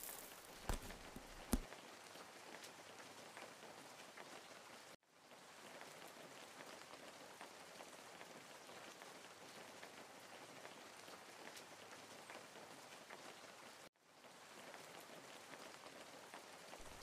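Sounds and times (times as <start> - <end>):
rain-like patter: 0.0 - 17.0.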